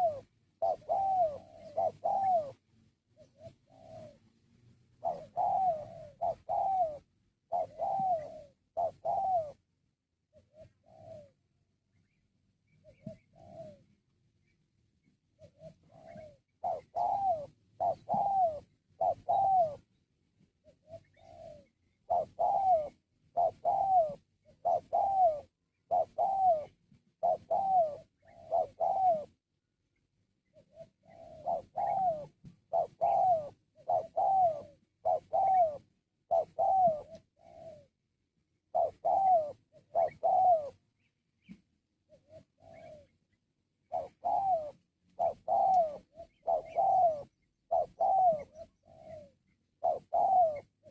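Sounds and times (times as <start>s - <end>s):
dove cooing: 0.0s - 9.7s, 10.3s - 11.6s, 12.7s - 14.1s, 15.3s - 29.4s, 30.4s - 38.0s, 38.6s - 50.9s.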